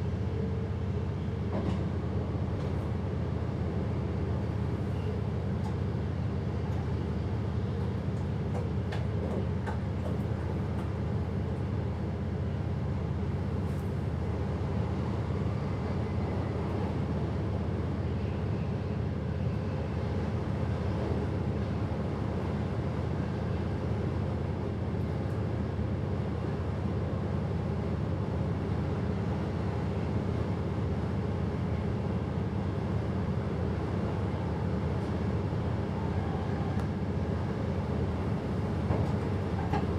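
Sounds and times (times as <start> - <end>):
train running low rumble: 0.0 - 39.9.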